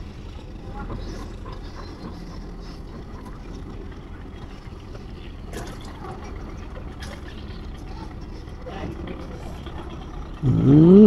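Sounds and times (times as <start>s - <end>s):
low river rumble: 2.1s - 11.0s.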